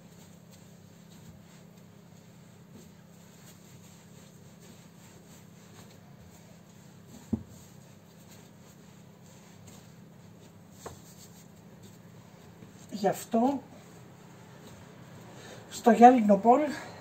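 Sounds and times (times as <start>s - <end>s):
hands kneading dough: 0.0s - 16.6s.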